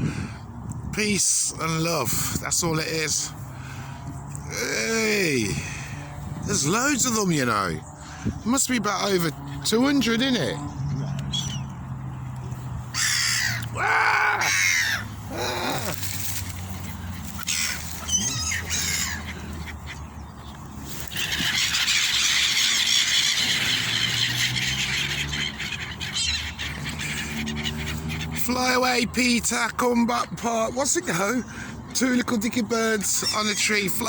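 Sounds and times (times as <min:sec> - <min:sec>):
gulls calling: 0:00.0 - 0:34.0.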